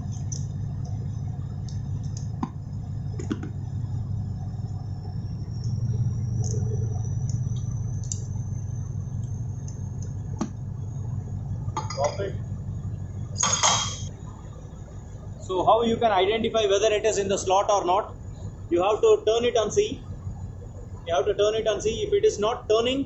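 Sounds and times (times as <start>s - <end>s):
low machinery rumble: 0.0s - 23.0s.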